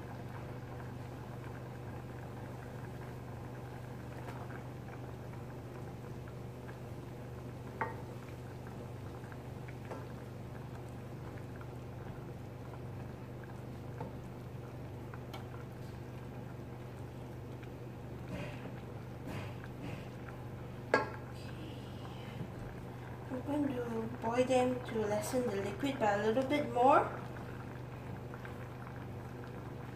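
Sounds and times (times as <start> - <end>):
sauce bubbling: 0.0 - 29.9.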